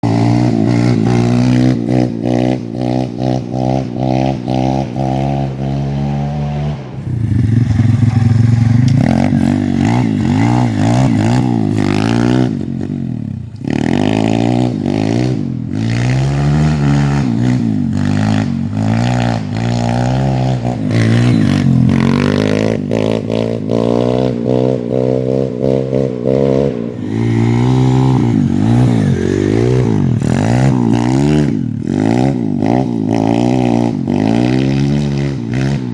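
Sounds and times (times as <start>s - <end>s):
motorbike engine revving: 0.0s - 35.9s.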